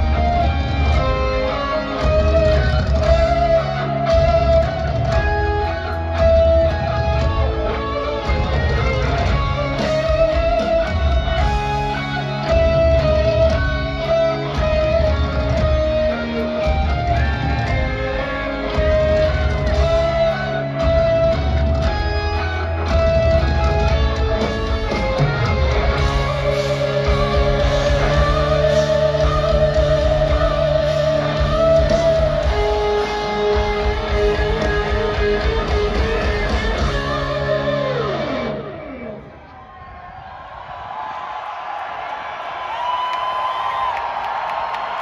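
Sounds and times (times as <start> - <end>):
live hard rock band: 0.0 - 39.4
lead guitar long wavering notes: 0.0 - 39.6.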